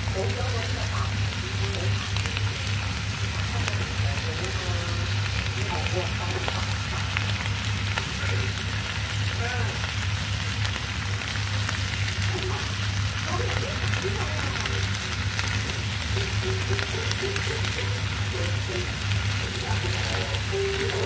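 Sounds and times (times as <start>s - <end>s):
food sizzling in frying pan: 0.0s - 21.0s.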